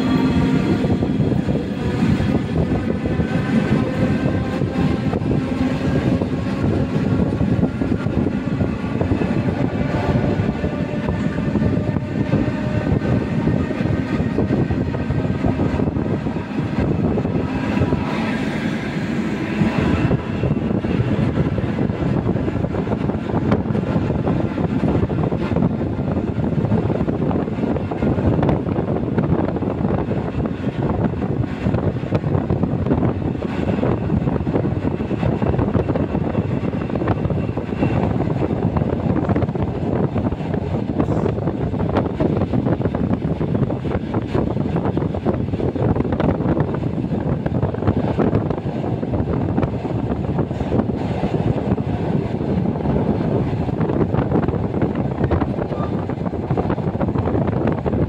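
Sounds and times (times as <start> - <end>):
train wheels rumbling on rails: 0.0 - 58.0
wind noise: 0.0 - 58.0.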